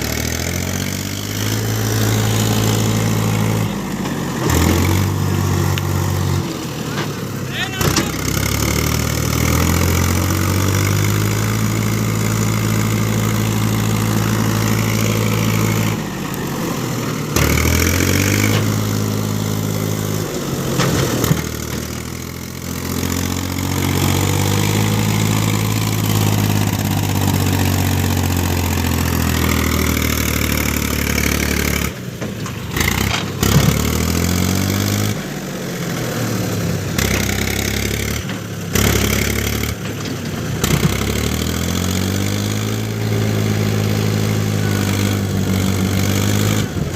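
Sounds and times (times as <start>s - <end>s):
heavy diesel engine revving: 0.0s - 46.9s.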